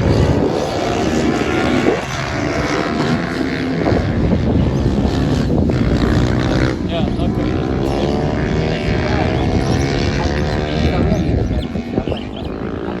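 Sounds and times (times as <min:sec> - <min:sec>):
racing motorcycles at high revs: 0:00.0 - 0:13.0.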